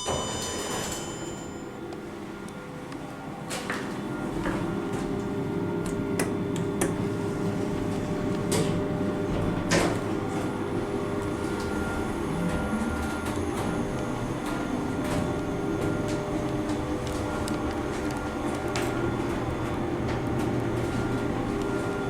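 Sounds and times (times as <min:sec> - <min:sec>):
lift hum: 0:00.0 - 0:22.0.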